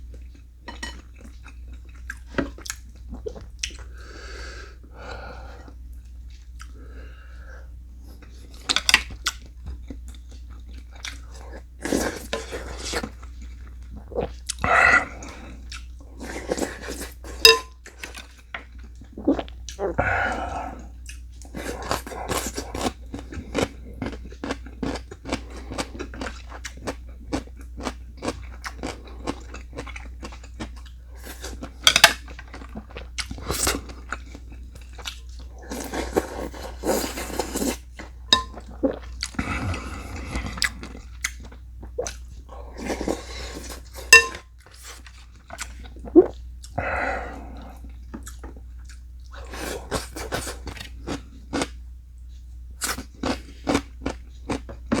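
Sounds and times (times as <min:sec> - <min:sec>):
chewing and crunching food: 0:00.0 - 0:04.0, 0:05.3 - 0:07.1, 0:07.9 - 0:55.0.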